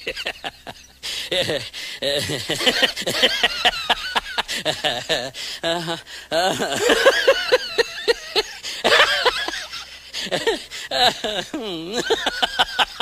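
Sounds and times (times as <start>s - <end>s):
person laughing hard: 0.0s - 13.0s.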